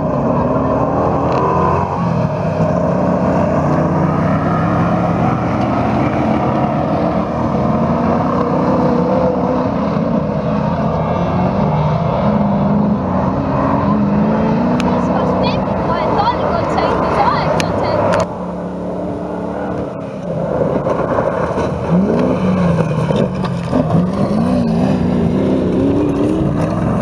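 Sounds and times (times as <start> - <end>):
racing buggy engines revving: 0.0 - 27.0.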